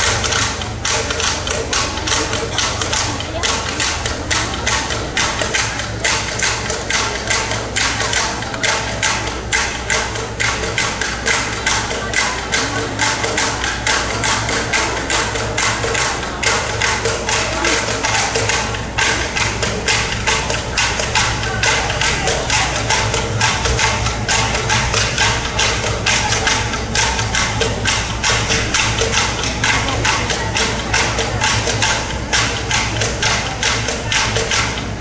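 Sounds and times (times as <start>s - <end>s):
fast percussion beat: 0.0s - 35.0s
low steady hum: 0.0s - 35.0s.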